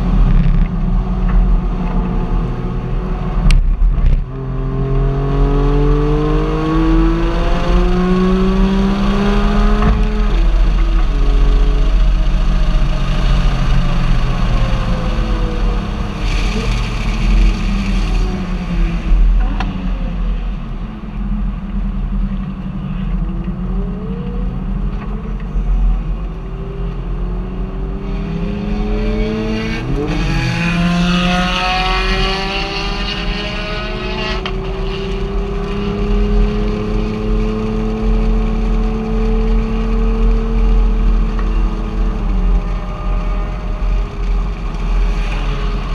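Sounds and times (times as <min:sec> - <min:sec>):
road noise: 0:00.0 - 0:45.9
vehicle engine: 0:00.0 - 0:45.9.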